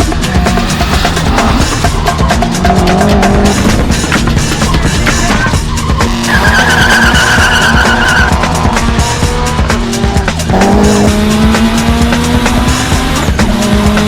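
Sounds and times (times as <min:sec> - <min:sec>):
car engine revving: 0:00.0 - 0:14.0
music: 0:00.0 - 0:14.0
car tyres squealing: 0:00.2 - 0:11.9.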